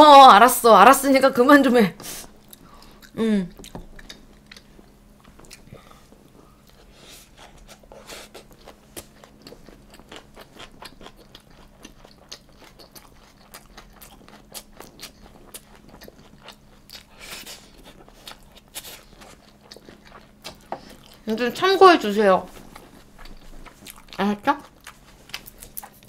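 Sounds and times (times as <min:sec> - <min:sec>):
person chewing food: 0:02.2 - 0:21.3, 0:22.5 - 0:26.0.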